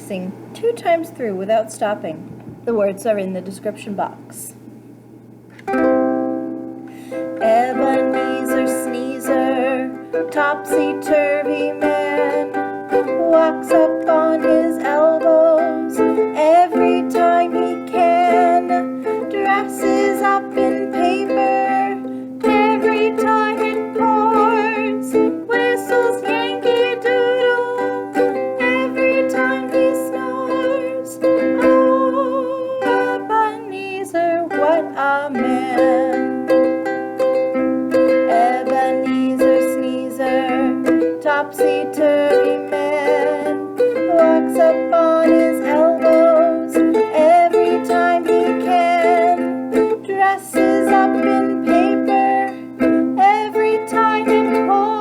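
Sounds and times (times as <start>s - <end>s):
plucked string accompaniment: 5.5s - 55.0s
person singing children's song: 7.1s - 55.0s.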